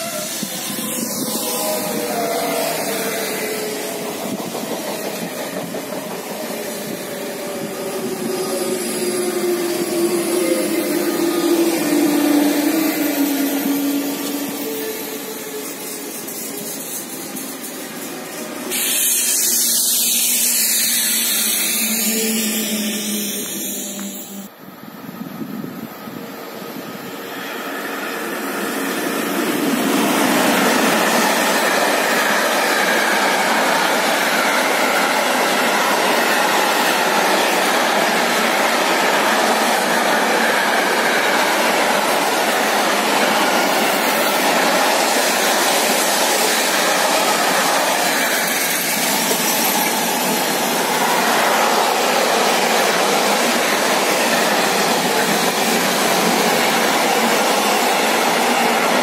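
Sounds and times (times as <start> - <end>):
freight train passing: 0.0 - 59.0
train wheels rolling on rails: 0.0 - 59.0.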